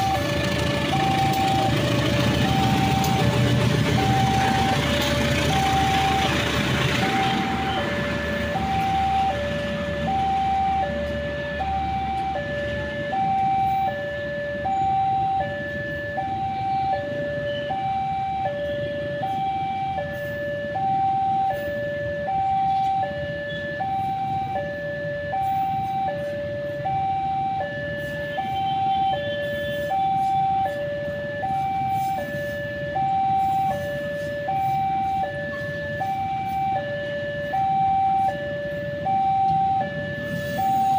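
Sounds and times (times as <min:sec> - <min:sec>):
two-tone crossing alarm: 0:00.0 - 0:40.9.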